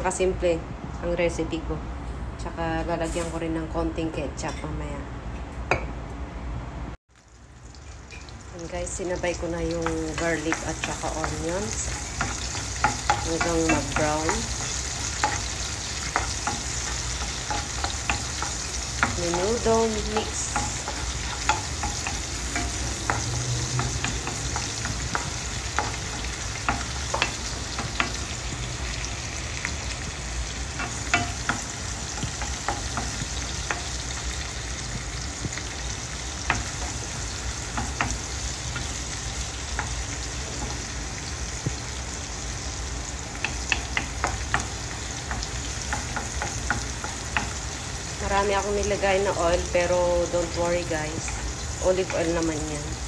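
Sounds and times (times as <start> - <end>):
garlic and onions sizzling in oil: 2.4 - 4.5, 7.0 - 53.0.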